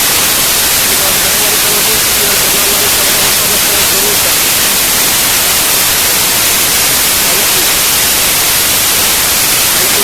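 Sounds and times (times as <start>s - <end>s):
loud static-like hiss: 0.0s - 10.0s.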